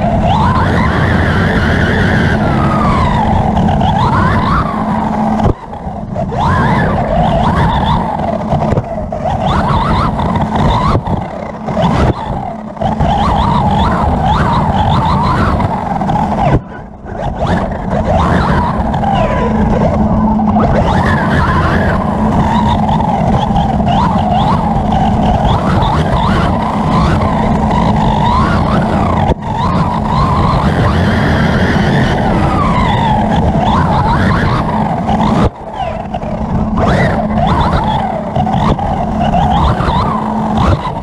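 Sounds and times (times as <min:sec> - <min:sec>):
electric motor whining: 0:00.0 - 0:41.0.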